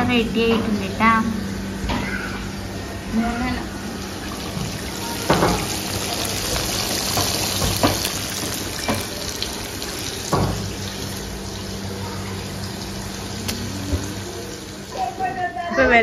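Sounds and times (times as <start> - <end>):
fish sizzling in oil: 0.9 - 15.6.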